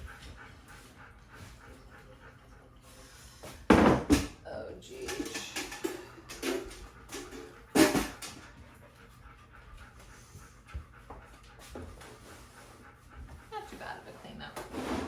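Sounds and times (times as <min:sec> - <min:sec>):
dog panting: 0:00.0 - 0:03.8, 0:04.8 - 0:15.0.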